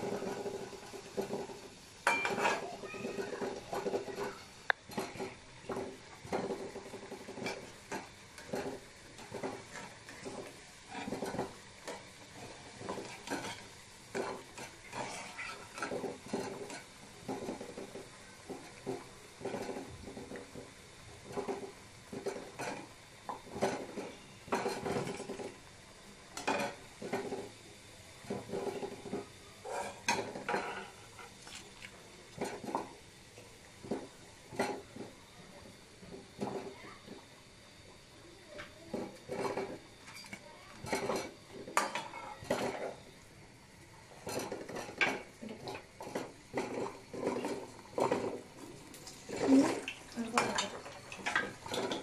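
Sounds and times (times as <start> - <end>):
metal skimmer scraping wok: 0.0 - 25.6, 26.3 - 27.6, 28.2 - 35.2, 38.9 - 43.2, 44.1 - 52.0
hot oil sizzling: 0.0 - 52.0.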